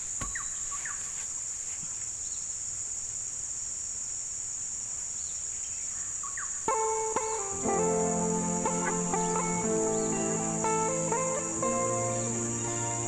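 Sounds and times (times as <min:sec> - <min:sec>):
cricket chorus: 0:00.0 - 0:13.0.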